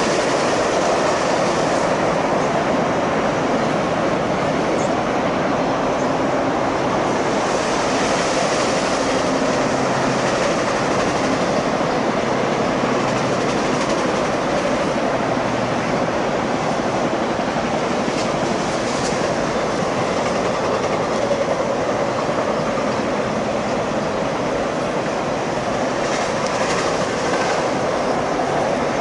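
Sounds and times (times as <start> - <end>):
freight train rolling past: 0.0 - 29.0.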